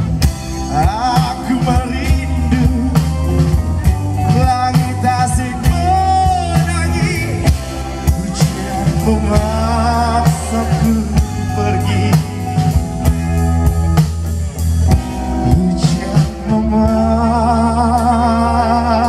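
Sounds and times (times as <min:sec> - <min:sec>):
pop-rock band playing: 0:00.0 - 0:19.0.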